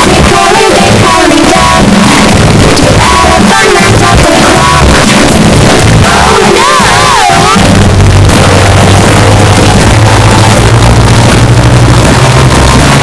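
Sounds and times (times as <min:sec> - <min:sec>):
effected rock music with guitar: 0:00.0 - 0:13.0.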